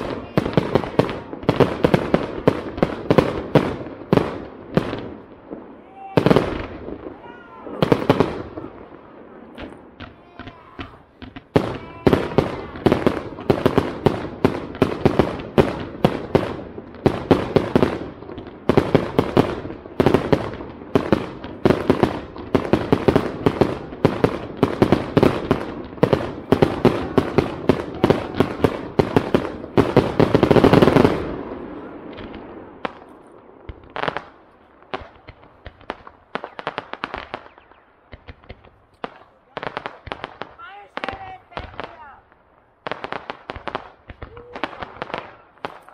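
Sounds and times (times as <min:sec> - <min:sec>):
faint fireworks pops: 0:00.0 - 0:45.9
fireworks bangs: 0:00.0 - 0:45.9.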